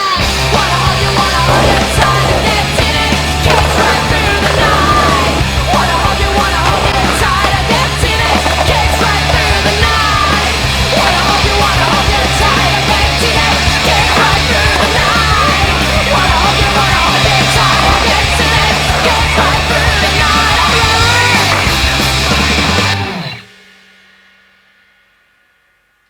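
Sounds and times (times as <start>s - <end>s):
distorted guitars: 0.0s - 23.5s
punk rock music: 0.0s - 23.6s
bass line: 0.2s - 23.4s.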